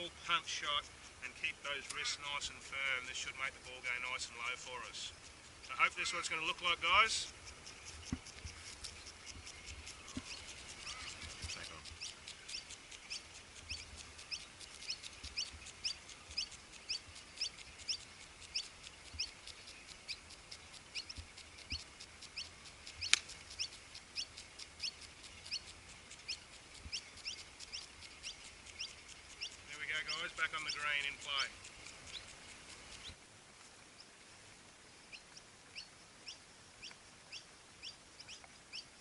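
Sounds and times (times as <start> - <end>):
high regular chirping: 0.0 - 33.2.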